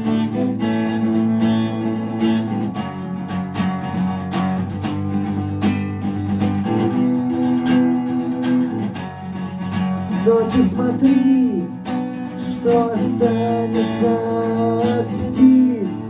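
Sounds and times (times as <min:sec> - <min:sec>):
strummed acoustic guitar chords: 0:00.0 - 0:16.0.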